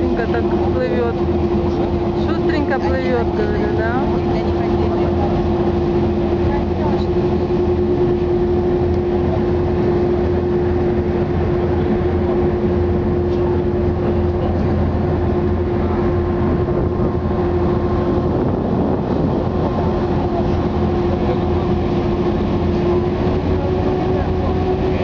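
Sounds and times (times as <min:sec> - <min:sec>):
ship engines droning: 0:00.0 - 0:25.0.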